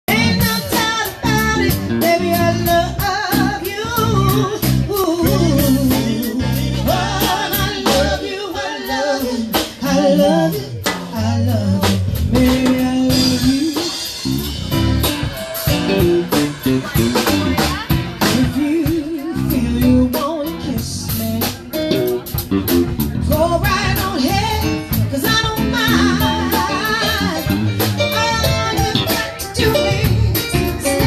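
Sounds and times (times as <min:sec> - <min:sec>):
electric bass: 0:00.0 - 0:31.0
woman singing into a microphone: 0:00.1 - 0:14.2, 0:18.2 - 0:21.5, 0:23.3 - 0:31.0
drum kit: 0:00.1 - 0:31.0.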